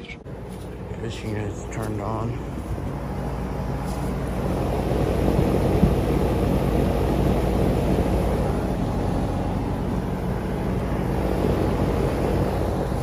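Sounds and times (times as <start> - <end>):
compressor hum: 0.0 - 13.0
condenser fan air rush: 0.0 - 13.0.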